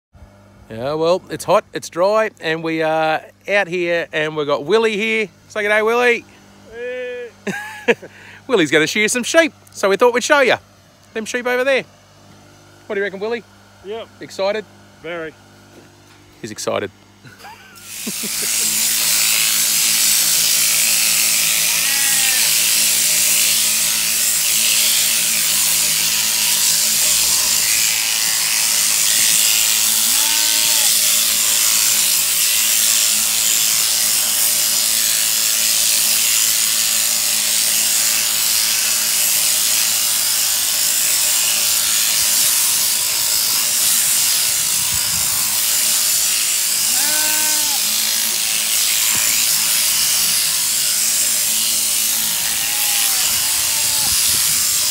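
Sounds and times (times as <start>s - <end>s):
sheep shearing clippers buzzing: 0.2s - 54.9s.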